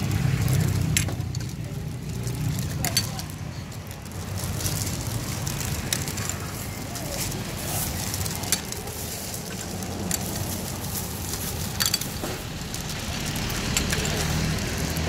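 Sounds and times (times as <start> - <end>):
plastic bag crinkling: 0.0 - 15.0
plastic cups clicking: 0.0 - 15.0.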